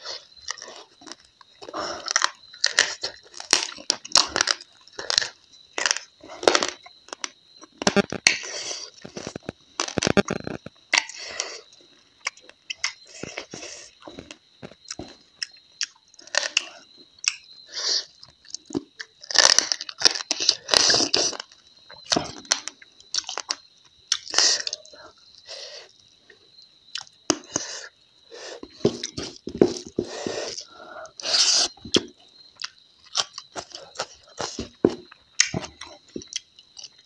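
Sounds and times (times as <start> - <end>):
chewing and crunching dried meat: 0.0 - 25.4, 28.5 - 37.0.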